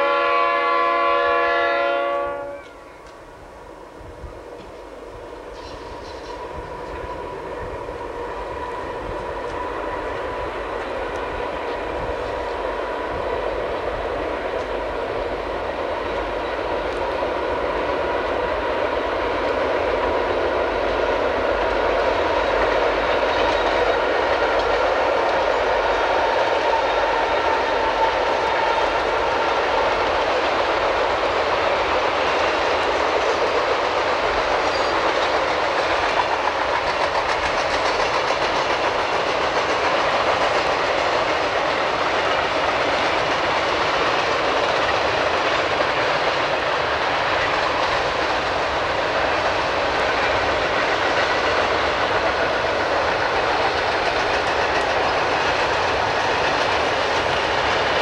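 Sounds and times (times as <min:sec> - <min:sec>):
steel wheels clattering on rails: 0:04.5 - 0:58.0.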